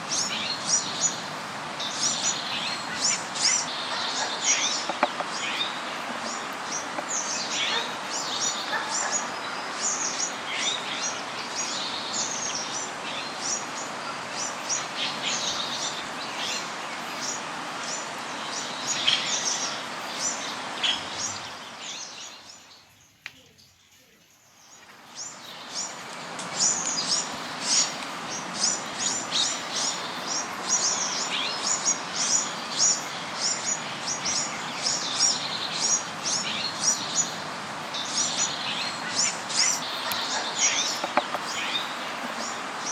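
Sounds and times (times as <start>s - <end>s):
steady background noise: 0.0s - 42.9s
small birds chirping: 0.1s - 42.9s.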